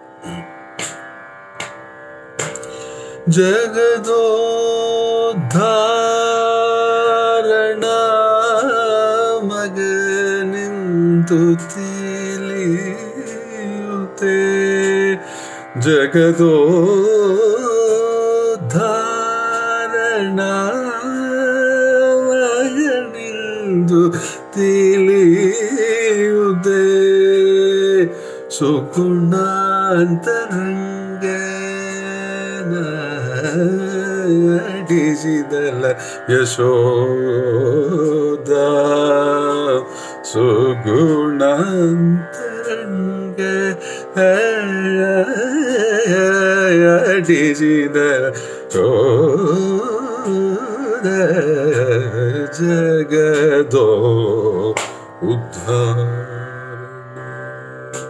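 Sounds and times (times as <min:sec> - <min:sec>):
man singing: 0:00.0 - 0:00.9, 0:02.5 - 0:58.0.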